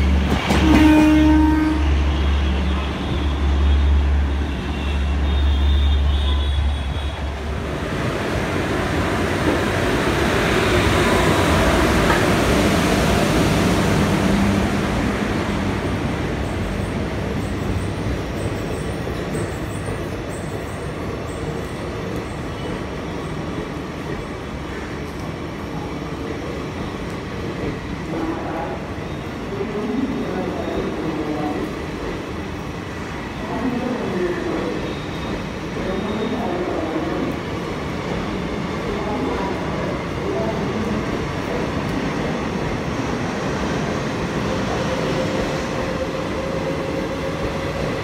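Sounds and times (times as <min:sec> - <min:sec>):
passenger train rumbling past: 0:00.0 - 0:48.0.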